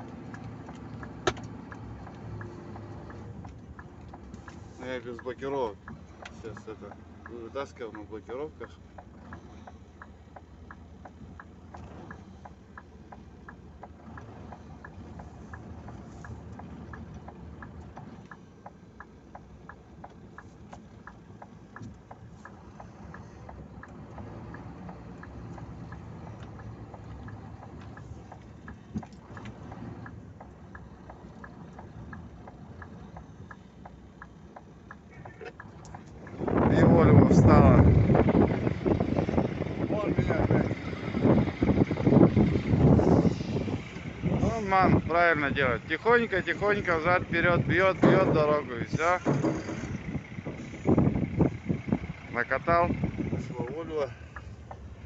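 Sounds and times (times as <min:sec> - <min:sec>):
light ticking: 0:00.0 - 0:55.0
truck engine idling: 0:00.0 - 0:55.0.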